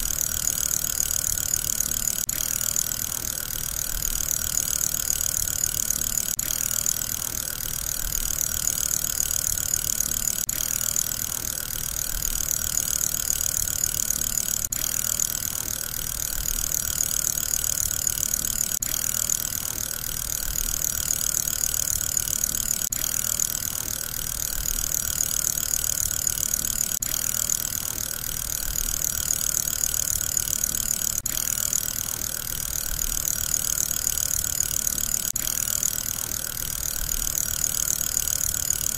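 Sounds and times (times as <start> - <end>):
fidget spinner whirring: 0.0 - 38.9.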